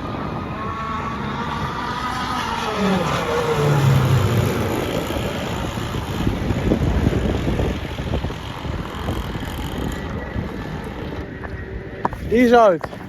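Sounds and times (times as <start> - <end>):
boat engine droning: 0.0 - 12.3
wind buffeting microphone: 0.0 - 13.0.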